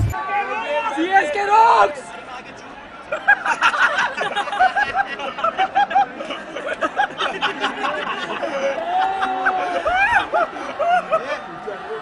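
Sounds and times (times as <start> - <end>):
crowd noise: 0.0 - 12.0
spectators laughing and shouting: 0.0 - 12.0.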